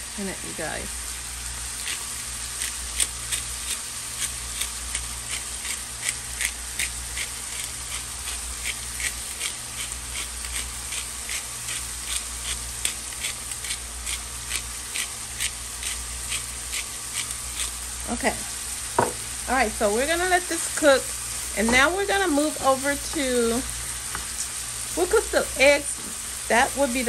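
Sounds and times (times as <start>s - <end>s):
food sizzling in a skillet: 0.0s - 27.0s
low steady hum: 0.0s - 27.0s
seasoning shaker ticking: 1.1s - 27.0s.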